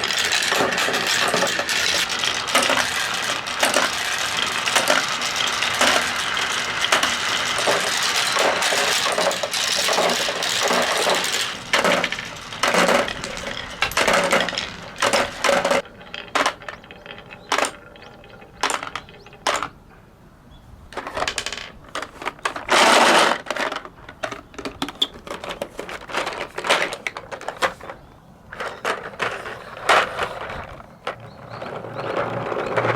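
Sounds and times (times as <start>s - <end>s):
marbles clattering down wooden run: 0.0s - 19.8s, 21.0s - 28.0s, 28.6s - 32.9s.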